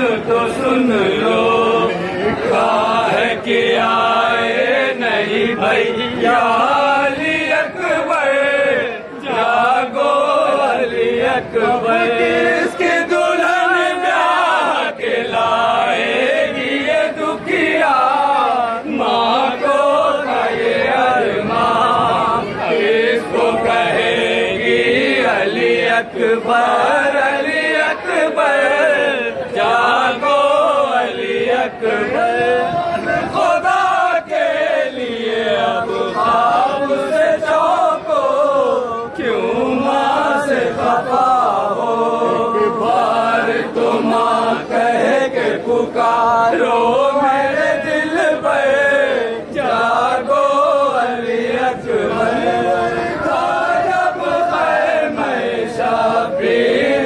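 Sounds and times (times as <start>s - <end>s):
crowd of men chanting: 0.0s - 57.0s.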